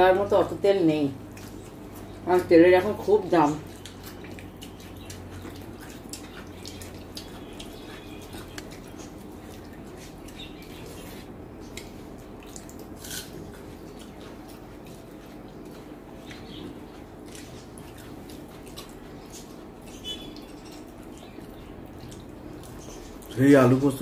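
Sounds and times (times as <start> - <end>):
low steady hum: 0.0 - 24.0
wet clicks of eating by hand: 1.2 - 2.2, 3.0 - 11.0, 11.6 - 24.0
chewing: 1.2 - 24.0.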